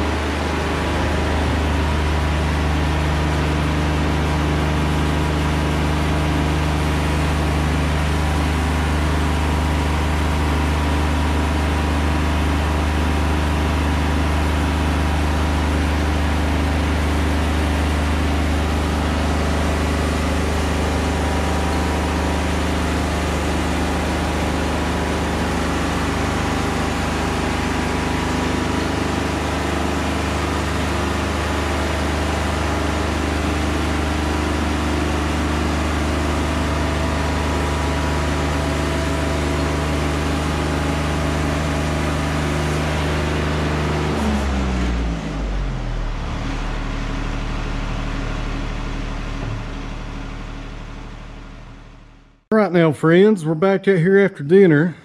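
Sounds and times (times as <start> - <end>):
sawmill engine humming: 0.0 - 55.0.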